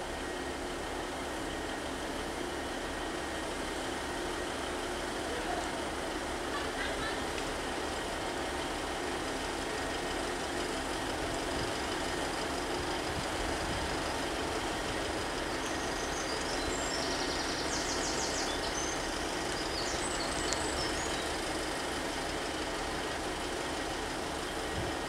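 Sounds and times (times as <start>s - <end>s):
diesel train engines idling: 0.0s - 25.0s.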